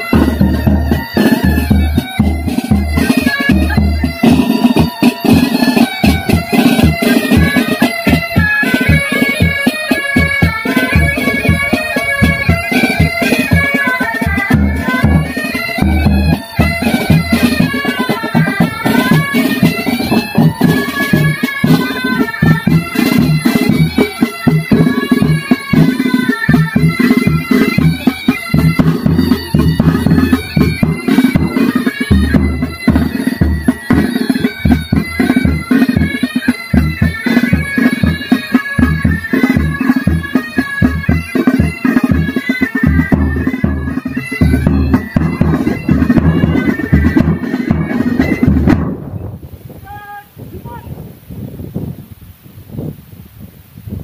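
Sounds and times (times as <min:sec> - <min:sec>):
bagpipes playing melody: 0:00.0 - 0:49.0
drums beating time: 0:00.0 - 0:49.2.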